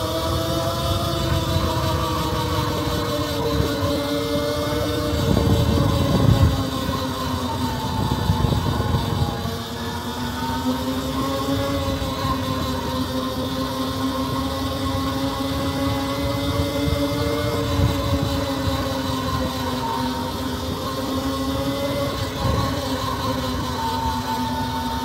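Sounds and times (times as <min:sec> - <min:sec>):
electric bike motor whining: 0:00.0 - 0:25.0
wind rumble on microphone: 0:00.0 - 0:25.0.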